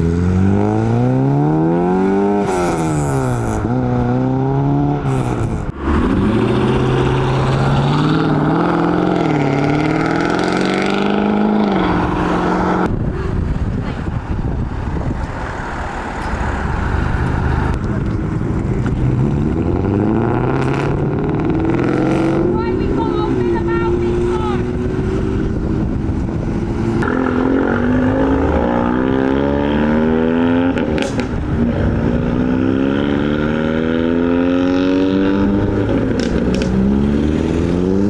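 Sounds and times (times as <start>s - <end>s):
car engines revving and accelerating: 0.0s - 38.0s.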